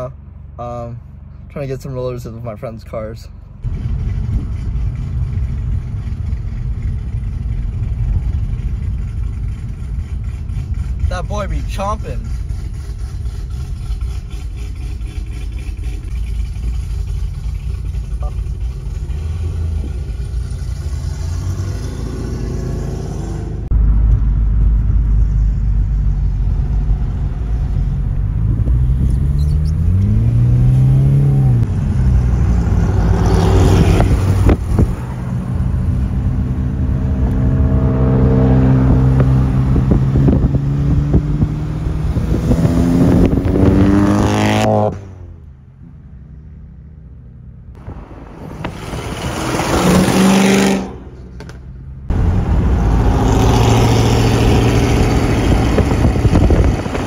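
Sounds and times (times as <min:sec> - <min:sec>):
car engine driving: 0:00.0 - 0:57.0
engine revving: 0:03.6 - 0:23.8, 0:25.9 - 0:45.4, 0:47.8 - 0:57.0.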